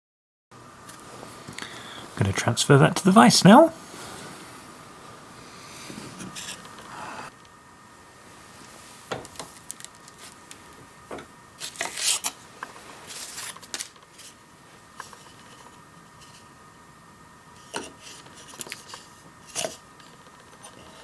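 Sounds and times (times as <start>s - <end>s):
faint steady hum: 0.6s - 21.0s.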